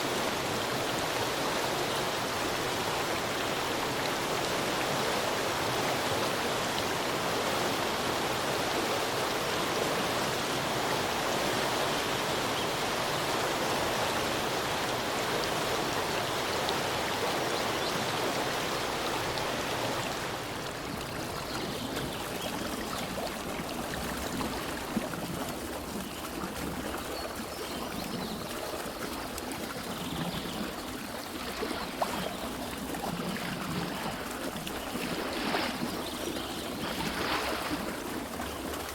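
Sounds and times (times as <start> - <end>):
rushing water: 0.0 - 38.9
water gurgling: 0.0 - 38.9.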